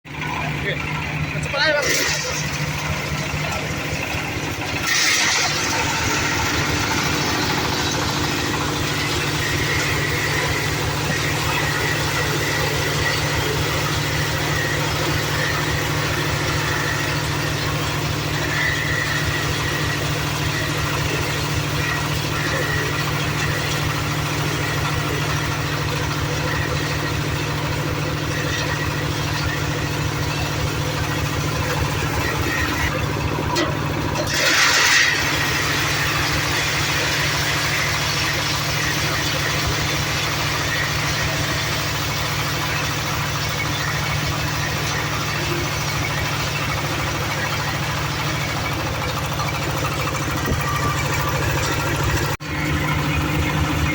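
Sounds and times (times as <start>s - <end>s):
engine idling: 0.0s - 53.9s.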